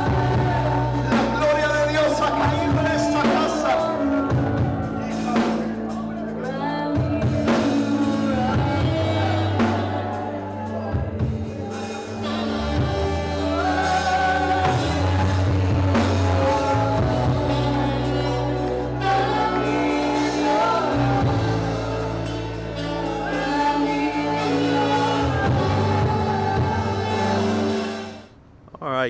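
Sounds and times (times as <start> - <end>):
person singing: 0.0 - 28.2
worship band playing live: 0.0 - 28.4
drums: 0.0 - 29.0
held bass notes: 0.0 - 29.0.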